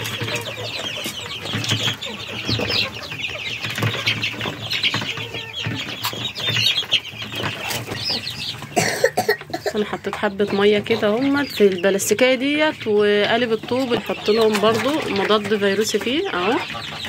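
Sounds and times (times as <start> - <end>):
chicks and ducklings peeping: 0.0 - 17.0.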